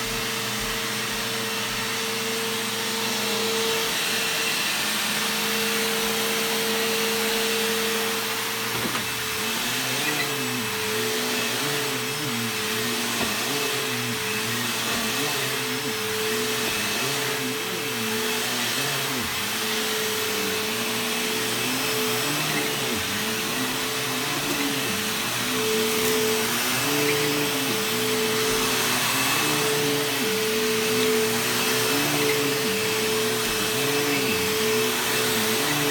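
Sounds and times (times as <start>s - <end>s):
upright vacuum cleaner running: 0.0s - 35.9s.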